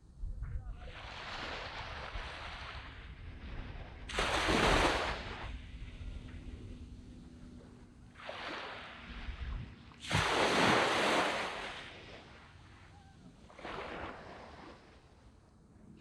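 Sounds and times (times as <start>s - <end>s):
small waves breaking on sand: 0.7s - 15.6s.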